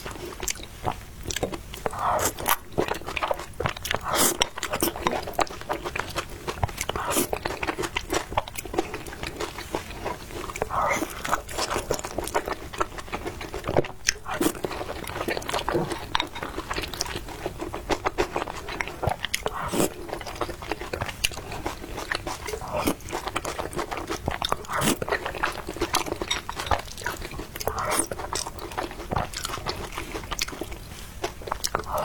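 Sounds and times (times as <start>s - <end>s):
person chewing with crunches: 0.0s - 32.0s.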